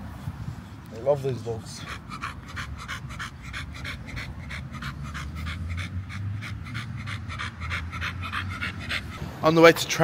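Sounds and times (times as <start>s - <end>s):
dog panting: 1.1s - 9.2s.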